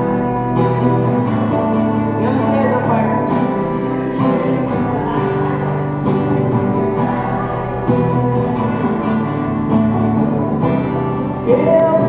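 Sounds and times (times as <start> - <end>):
instrumental pop music: 0.0 - 12.0.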